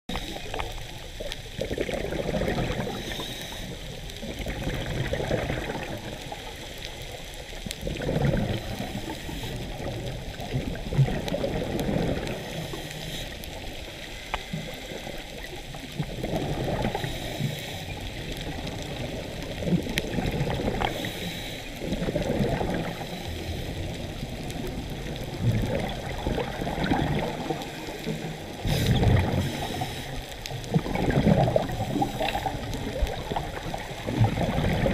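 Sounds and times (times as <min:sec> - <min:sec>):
exhaled bubbles gurgling: 0:00.1 - 0:34.9.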